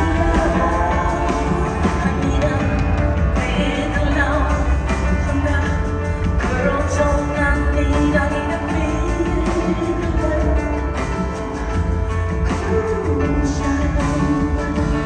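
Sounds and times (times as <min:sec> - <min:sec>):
woman singing: 0:00.0 - 0:11.5, 0:12.4 - 0:15.0
heavy bass: 0:00.0 - 0:15.0
live rock band: 0:00.0 - 0:15.0.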